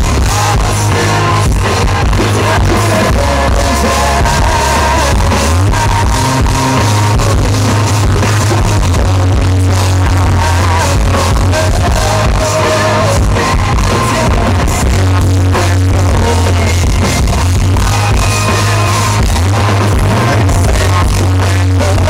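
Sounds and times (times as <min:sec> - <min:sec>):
live rock band playing: 0:00.0 - 0:22.0
man singing: 0:00.0 - 0:22.0.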